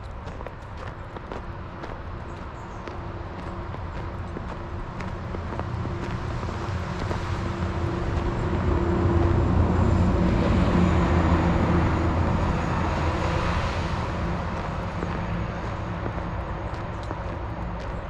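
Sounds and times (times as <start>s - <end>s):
vehicle passing by: 3.1s - 18.0s.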